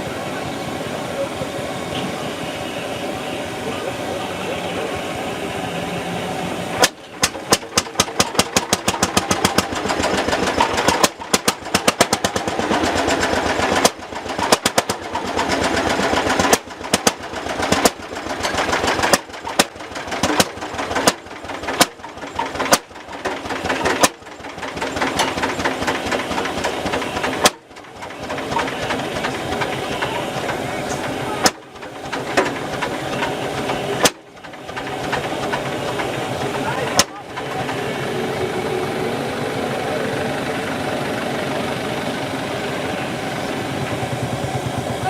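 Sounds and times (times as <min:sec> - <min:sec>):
engine knocking beat: 0:06.7 - 0:45.0.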